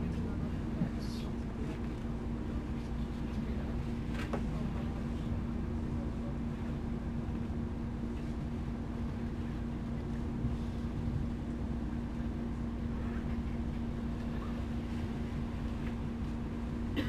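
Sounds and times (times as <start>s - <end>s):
diesel bus engine rumbling: 0.0s - 17.0s.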